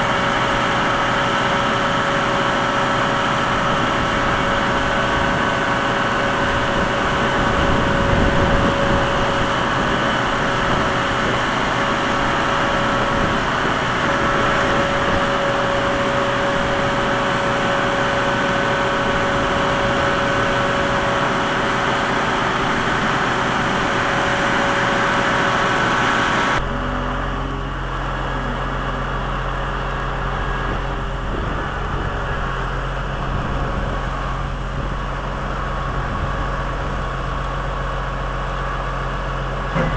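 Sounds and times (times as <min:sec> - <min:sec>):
diesel machinery engine running: 0:00.0 - 0:39.9
sustained whine: 0:00.0 - 0:39.9.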